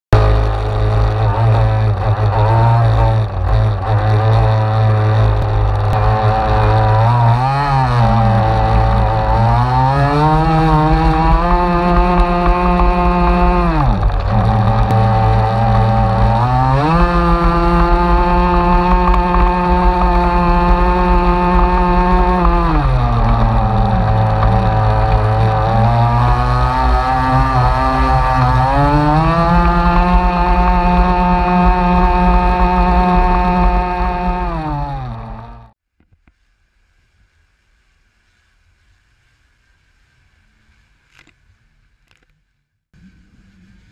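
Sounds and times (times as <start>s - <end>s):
rc boat motor running: 0.1s - 35.8s.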